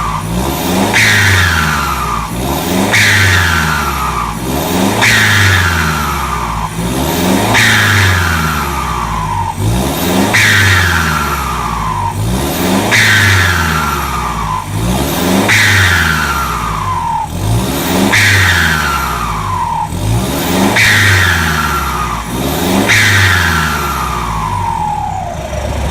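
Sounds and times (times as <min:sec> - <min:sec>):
pickup engine revving: 0:00.0 - 0:25.9.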